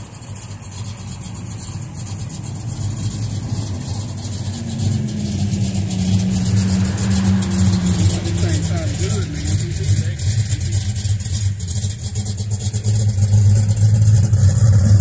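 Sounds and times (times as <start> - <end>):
car engines rumbling past: 0.0 - 15.0.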